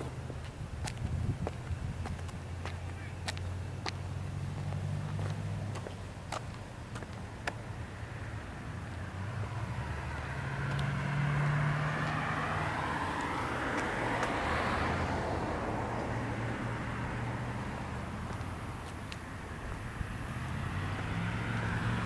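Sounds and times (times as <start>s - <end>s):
vehicle passing by: 0.0s - 22.0s.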